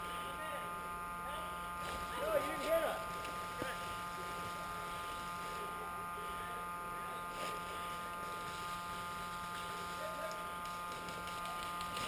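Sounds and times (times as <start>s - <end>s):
electrical hum with high whine: 0.0s - 12.0s.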